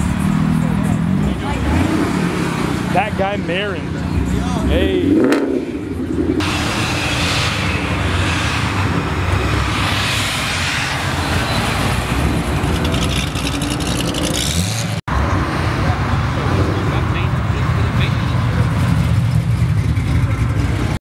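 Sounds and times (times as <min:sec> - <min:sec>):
sports car engines rumbling: 0:00.0 - 0:21.0.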